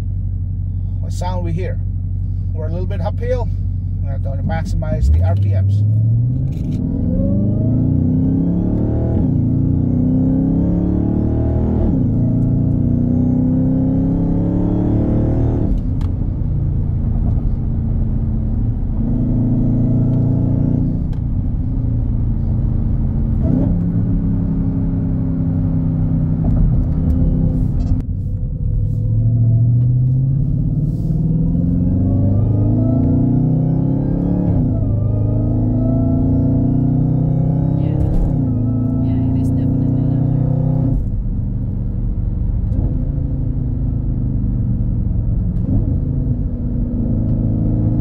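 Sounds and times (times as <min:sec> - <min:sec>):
car engine accelerating hard: 0:04.2 - 0:48.0.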